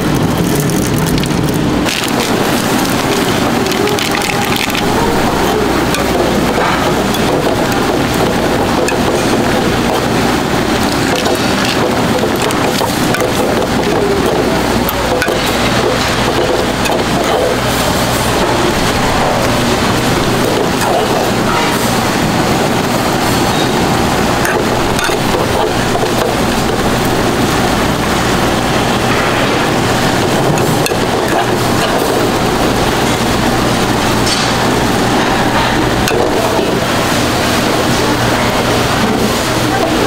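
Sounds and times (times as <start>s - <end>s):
gas stove burners roaring: 0.0s - 40.0s.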